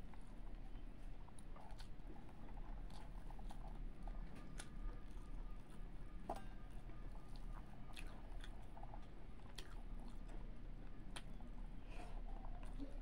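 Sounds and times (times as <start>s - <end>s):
person chewing with smacks: 0.0s - 13.0s
steady low hum: 0.0s - 13.0s.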